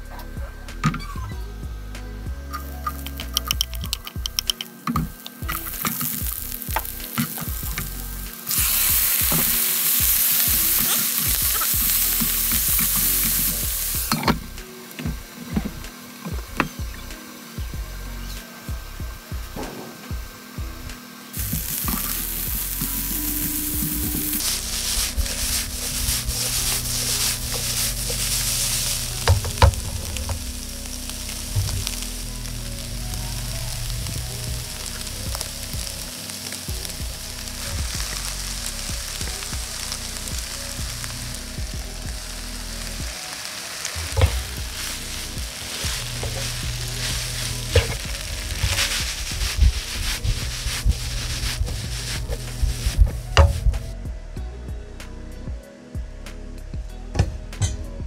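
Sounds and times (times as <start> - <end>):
stir-fry sizzling in a wok: 2.3 - 54.0.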